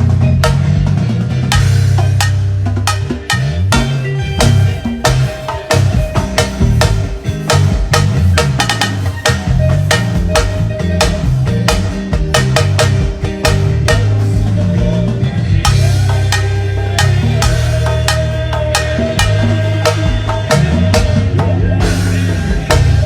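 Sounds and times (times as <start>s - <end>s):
bass line: 0.0s - 23.0s
drum kit groove: 0.0s - 23.0s.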